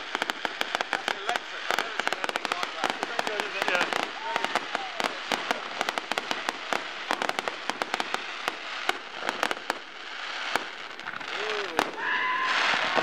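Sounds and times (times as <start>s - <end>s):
fireworks crackling and popping: 0.0s - 13.0s
steady hiss: 0.0s - 13.0s.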